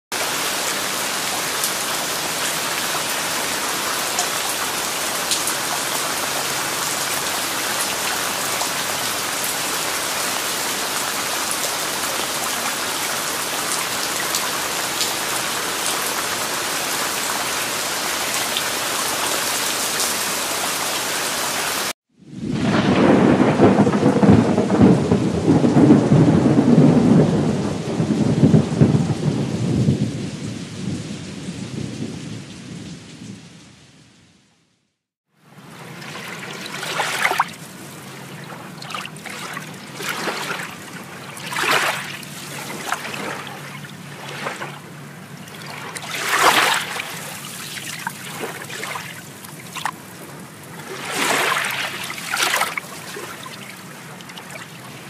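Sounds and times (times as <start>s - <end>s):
heavy rain falling: 0.1s - 34.0s, 35.5s - 55.0s.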